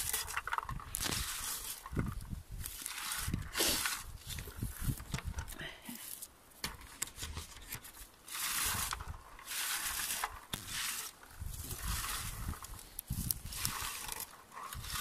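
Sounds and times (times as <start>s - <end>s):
scoop rustling through bushes: 0.0s - 6.3s, 7.1s - 15.0s.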